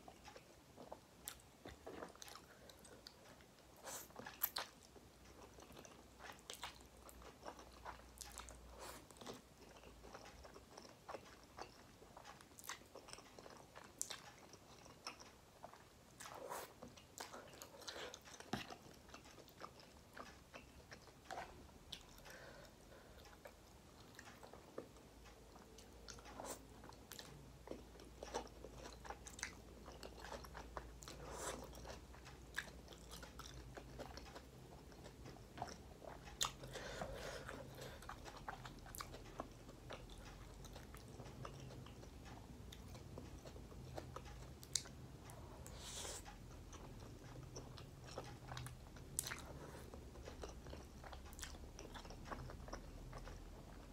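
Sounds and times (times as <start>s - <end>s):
person chewing noodles: 0.0s - 53.9s.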